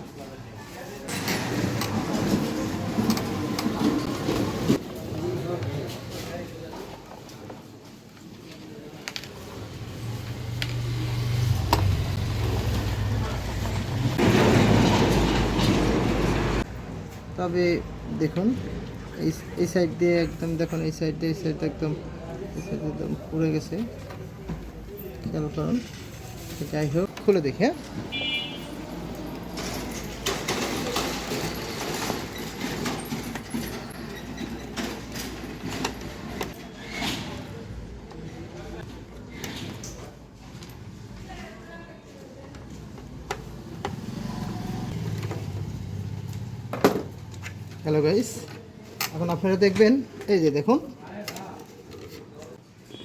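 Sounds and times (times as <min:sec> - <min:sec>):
steady background noise: 0:00.0 - 0:53.0.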